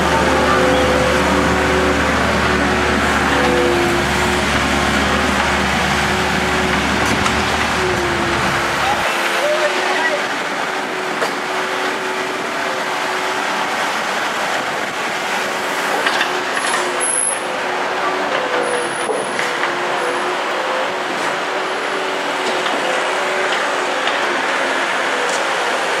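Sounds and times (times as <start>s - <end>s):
heavy vehicle engine: 0.0s - 26.0s
vehicle engines street noise: 0.0s - 26.0s.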